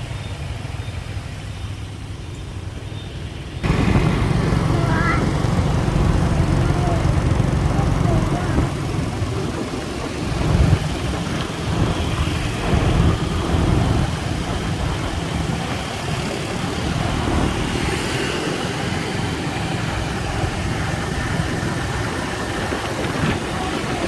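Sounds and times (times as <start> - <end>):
motorbike engine running: 3.6 - 24.0.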